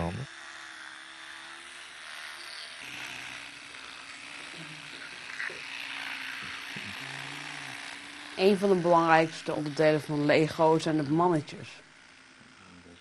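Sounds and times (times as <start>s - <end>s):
electric toothbrush humming: 0.0s - 13.0s.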